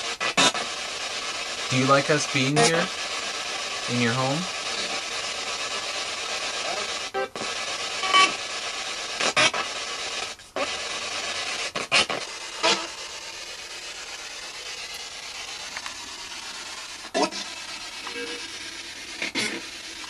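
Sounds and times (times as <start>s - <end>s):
camera rubbing against microphone: 0.0s - 20.0s
steady hiss: 0.0s - 20.0s.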